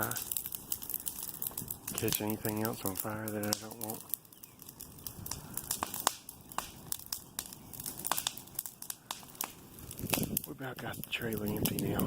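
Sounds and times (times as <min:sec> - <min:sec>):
brush fire crackling and popping: 0:00.0 - 0:12.0.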